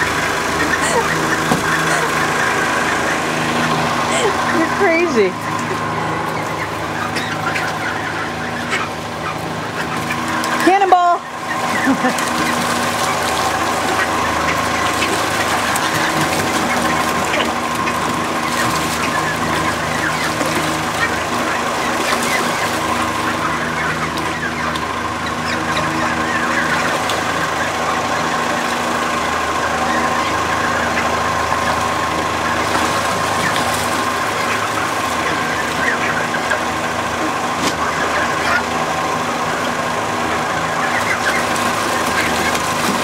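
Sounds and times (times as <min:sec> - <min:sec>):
birds splashing in water: 0:00.0 - 0:43.0
steady mechanical hum: 0:00.0 - 0:43.0
wings beating water: 0:00.0 - 0:43.0.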